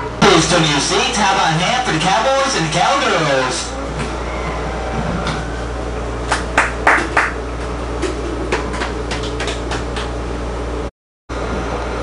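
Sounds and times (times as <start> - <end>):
train car low rumble: 0.0 - 12.0.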